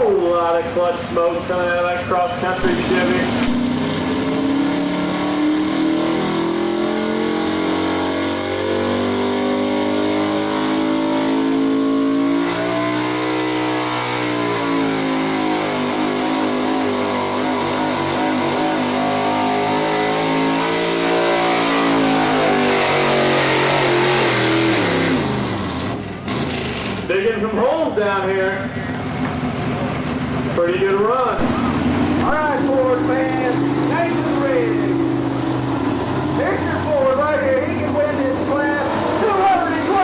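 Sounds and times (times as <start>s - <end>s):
truck engine revving under load: 0.0s - 40.0s.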